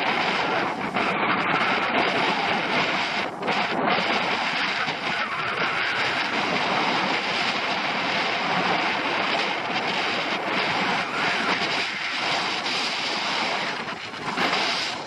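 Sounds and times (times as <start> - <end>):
skis scraping over snow: 0.0 - 15.0
wind on microphone: 0.0 - 15.0.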